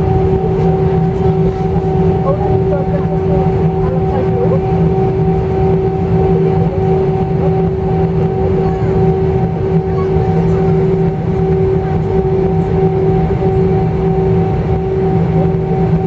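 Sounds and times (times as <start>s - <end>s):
jet engines humming in cabin: 0.0s - 16.0s.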